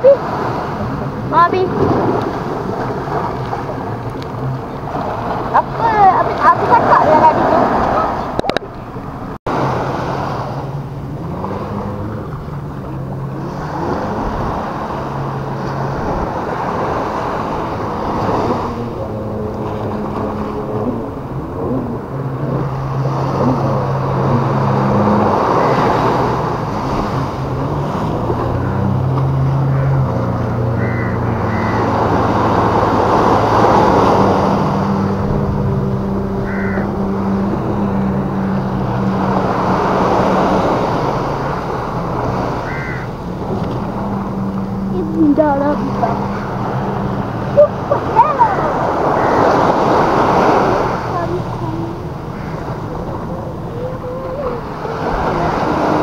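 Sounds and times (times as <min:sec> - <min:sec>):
boat engine drone: 0:00.0 - 0:56.0
sea waves washing on rocky beach: 0:00.0 - 0:56.0
wind on microphone: 0:00.0 - 0:56.0.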